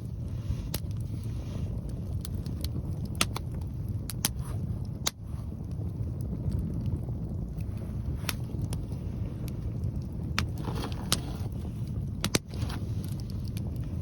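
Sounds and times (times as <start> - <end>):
fire pops: 0.0 - 14.0
wind rumble on microphone: 0.0 - 14.0
wood fire crackling: 0.0 - 14.0.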